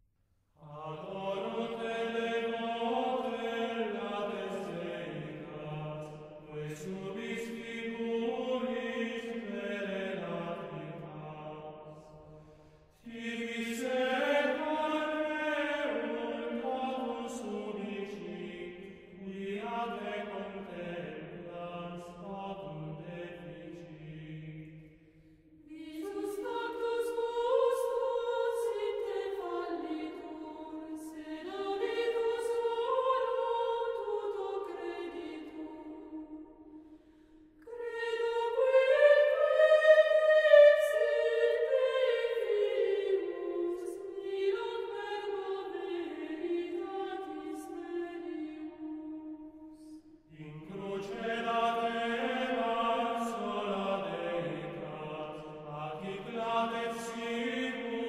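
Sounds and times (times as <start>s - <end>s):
plainchant singing: 0.6s - 12.4s, 13.0s - 58.0s.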